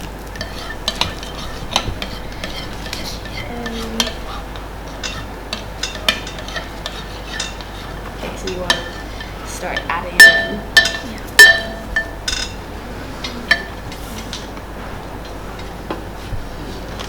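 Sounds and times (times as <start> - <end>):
metal utensil stirring in a bowl: 0.0 - 14.5.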